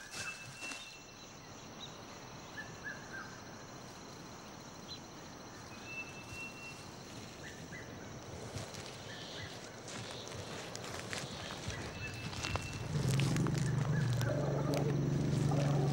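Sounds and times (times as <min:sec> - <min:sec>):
high insect drone: 0:00.0 - 0:15.9.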